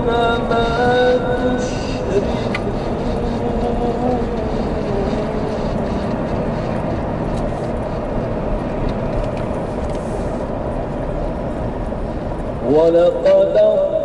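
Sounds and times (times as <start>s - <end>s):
vehicle driving on dirt track: 0.0s - 14.0s.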